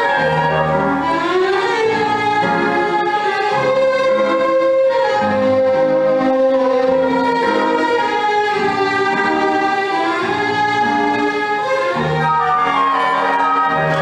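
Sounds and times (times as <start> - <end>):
orchestral strings: 0.0 - 14.0
violin melody: 0.0 - 14.0.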